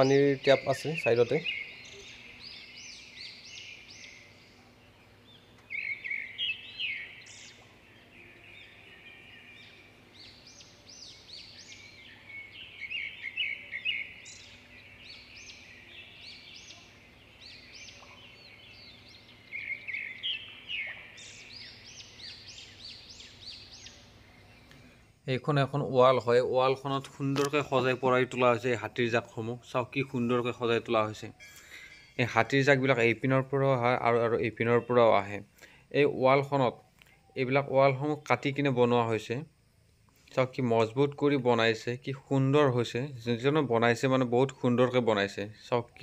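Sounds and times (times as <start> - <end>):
birds chirping and calling: 0.0 - 38.9, 43.3 - 46.0.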